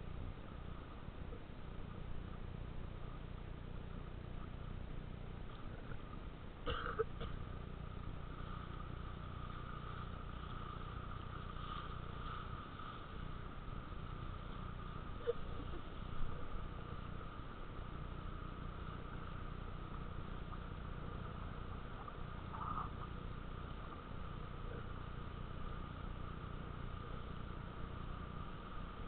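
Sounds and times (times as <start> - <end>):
motorboat engine running: 0.0 - 29.0
water noise: 0.0 - 29.0.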